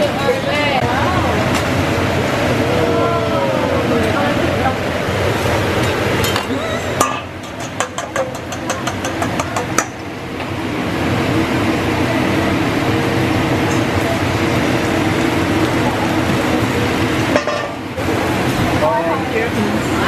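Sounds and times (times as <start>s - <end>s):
restaurant chatter: 0.0s - 20.0s.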